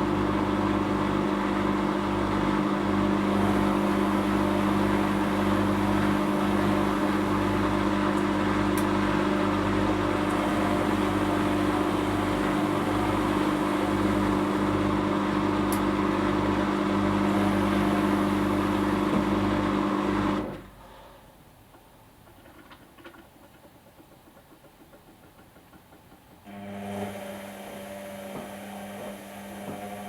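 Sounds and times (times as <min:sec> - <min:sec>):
washing machine spinning: 0:00.1 - 0:20.5, 0:22.5 - 0:30.0.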